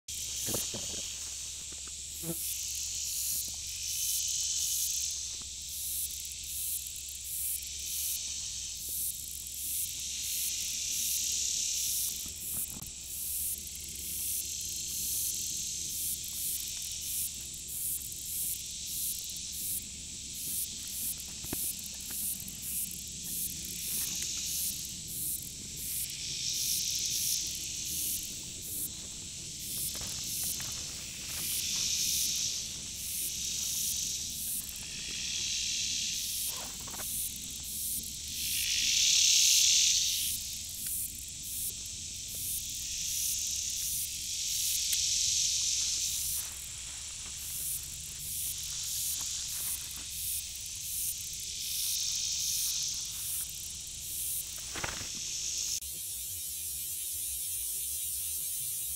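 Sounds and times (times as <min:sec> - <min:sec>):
insect chorus chirring: 0:00.1 - 0:58.9.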